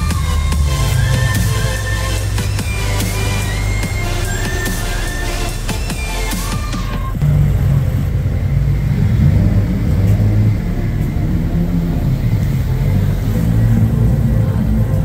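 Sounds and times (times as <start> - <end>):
car engine running: 0.0 - 15.0
electronic music: 0.0 - 15.0.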